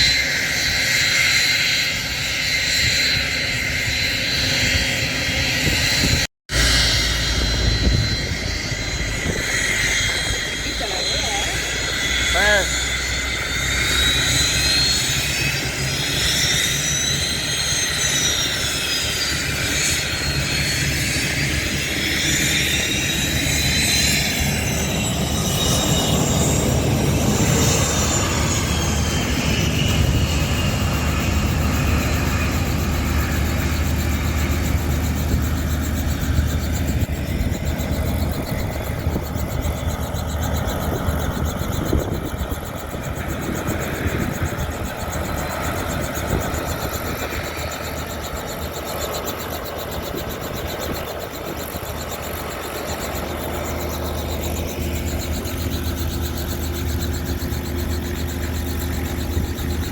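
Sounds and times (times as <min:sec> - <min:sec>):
turbine engine whine: 0:00.0 - 0:59.9.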